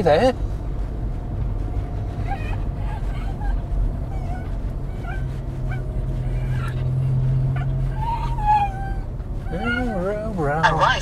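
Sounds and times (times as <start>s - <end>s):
car road and engine rumble: 0.0s - 11.0s
dog whining: 1.8s - 11.0s.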